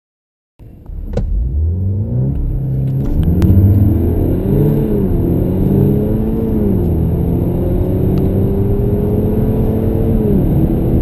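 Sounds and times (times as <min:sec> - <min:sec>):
car engine accelerating hard: 0:00.7 - 0:11.0.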